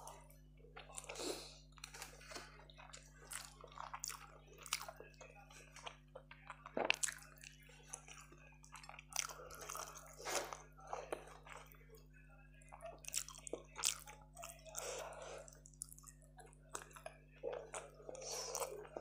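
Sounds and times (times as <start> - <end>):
person chewing and biting: 1.8 - 11.7, 12.7 - 19.0.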